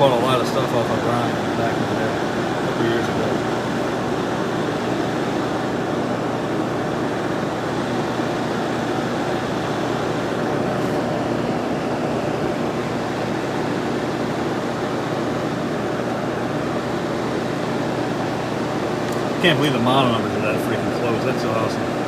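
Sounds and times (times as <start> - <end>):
air conditioner fan rushing air: 0.0 - 22.0
low electrical hum: 0.0 - 22.0.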